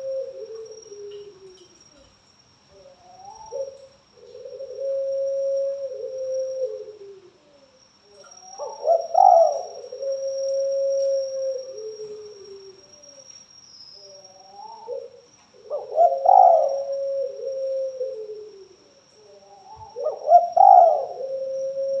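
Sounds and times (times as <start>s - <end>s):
dove cooing: 0.0s - 13.2s, 14.0s - 22.0s
faint high whine: 0.0s - 22.0s.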